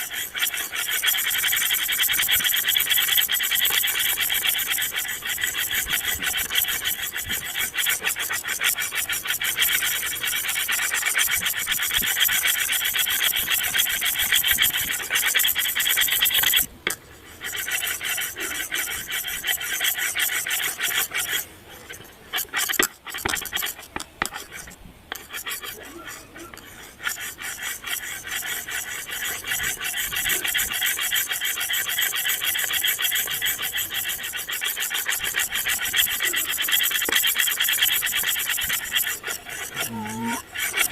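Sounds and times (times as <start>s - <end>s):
harsh rasping scratchy noise: 0.0s - 40.9s.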